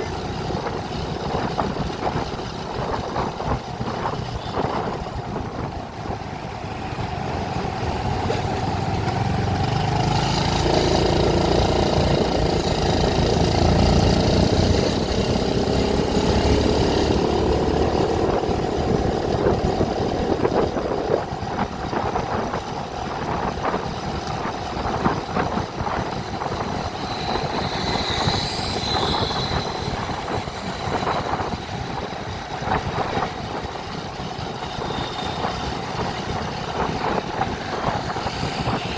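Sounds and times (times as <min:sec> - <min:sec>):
vehicle engine and road noise: 0:00.0 - 0:38.9.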